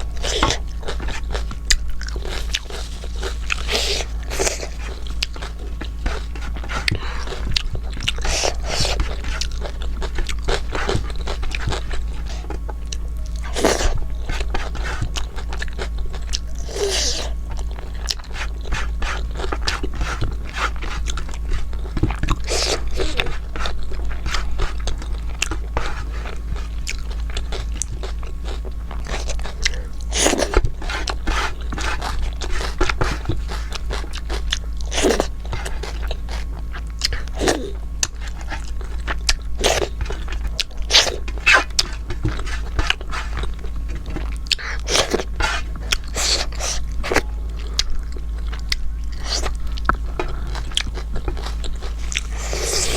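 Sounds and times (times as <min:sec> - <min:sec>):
person chewing and crunching: 0:00.0 - 0:52.9
steady low hum: 0:00.0 - 0:52.9.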